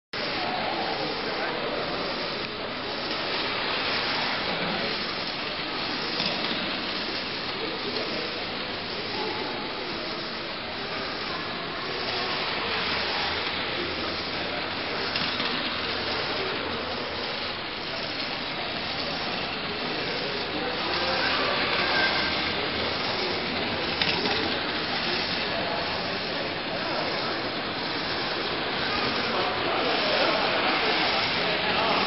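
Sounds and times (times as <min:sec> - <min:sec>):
toy train running on track: 0:00.2 - 0:32.0.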